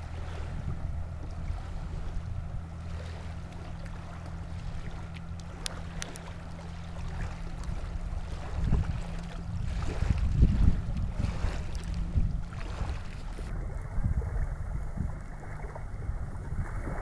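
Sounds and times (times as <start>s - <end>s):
steady low rumble: 0.0s - 17.0s
water lapping: 0.0s - 17.0s.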